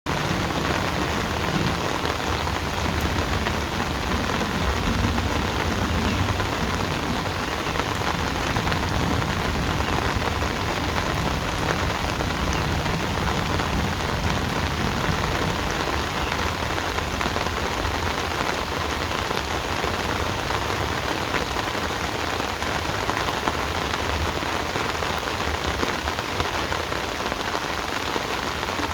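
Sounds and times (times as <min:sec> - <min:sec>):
heavy rain pattering: 0:00.1 - 0:28.9.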